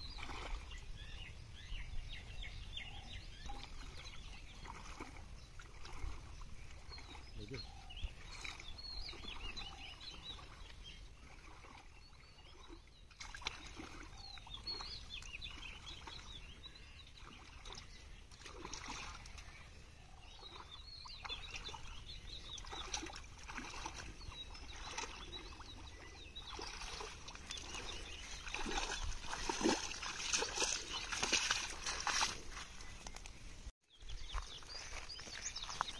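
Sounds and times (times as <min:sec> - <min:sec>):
birds chirping: 0:00.0 - 0:35.9
water sloshing from wading: 0:00.0 - 0:35.9.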